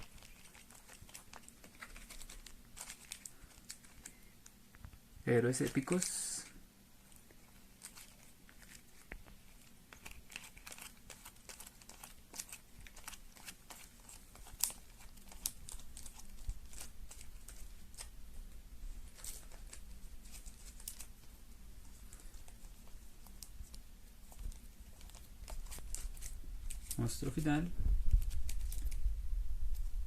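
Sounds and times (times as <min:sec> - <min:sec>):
cards and packaging rustling: 0:00.0 - 0:04.6, 0:05.3 - 0:18.2, 0:18.9 - 0:29.1.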